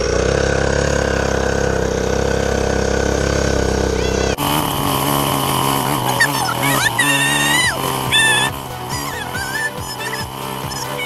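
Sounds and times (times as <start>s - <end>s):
different engine sound: 0.0s - 11.0s
dirt bike engine idling: 0.0s - 11.0s.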